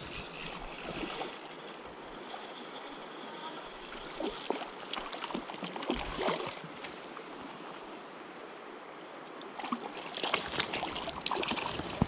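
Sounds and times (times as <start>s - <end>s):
creek water running: 0.0s - 8.4s, 9.2s - 12.0s.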